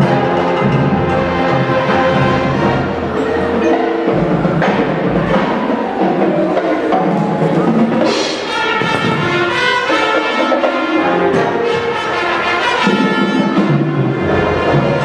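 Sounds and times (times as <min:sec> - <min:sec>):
brass held chords: 0:00.0 - 0:15.0
marching band playing: 0:00.0 - 0:15.0.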